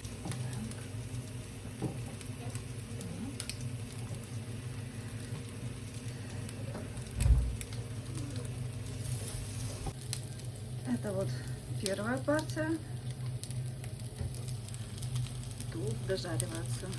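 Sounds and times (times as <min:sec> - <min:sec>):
pancakes sizzling in a pan: 0:00.0 - 0:16.9.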